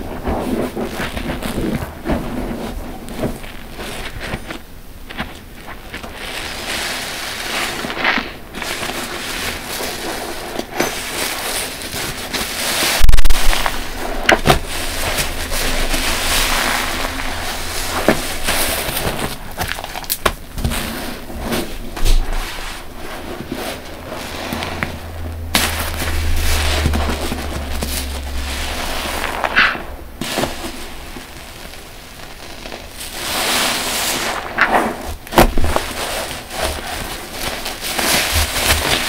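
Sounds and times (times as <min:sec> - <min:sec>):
foamy sponge squelching: 0:00.0 - 0:39.0.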